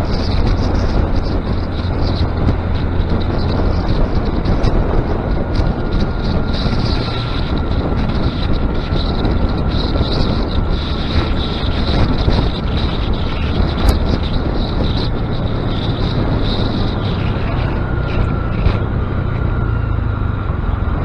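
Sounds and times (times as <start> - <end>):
small motorcycle engine running: 0.0 - 21.0
wind on microphone: 0.0 - 21.0.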